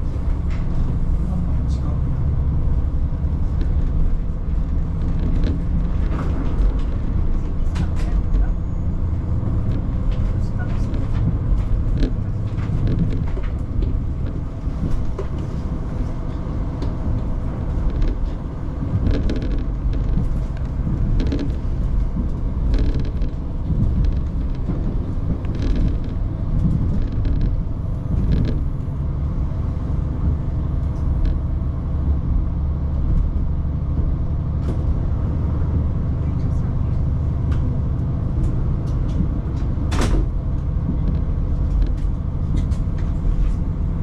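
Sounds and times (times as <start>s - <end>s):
railcar engine rumble: 0.0s - 44.0s
wheels clicking on track: 0.0s - 44.0s.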